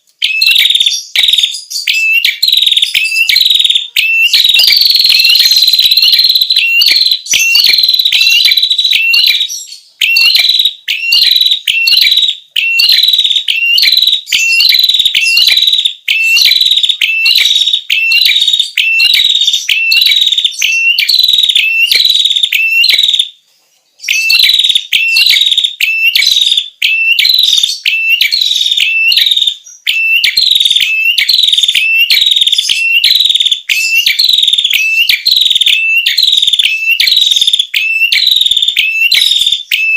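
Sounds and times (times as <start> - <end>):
shrill bird lure call: 0.0 - 23.4, 24.0 - 39.9.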